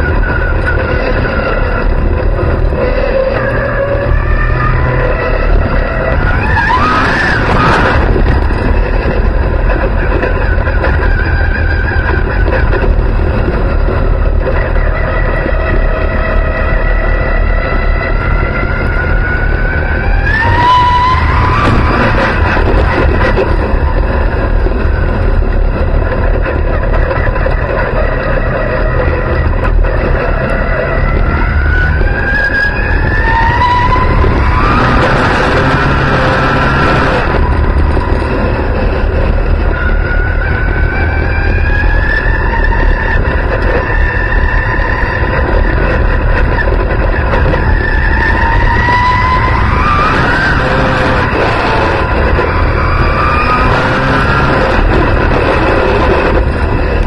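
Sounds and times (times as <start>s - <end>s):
race car engine running: 0.0s - 57.0s
wind on microphone: 0.0s - 57.0s.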